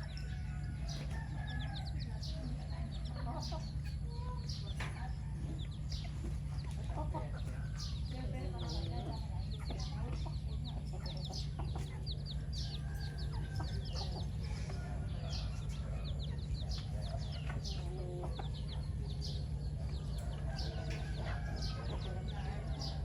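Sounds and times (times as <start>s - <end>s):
chickens peeping: 0.0s - 23.0s
steady low rumble: 0.0s - 23.0s.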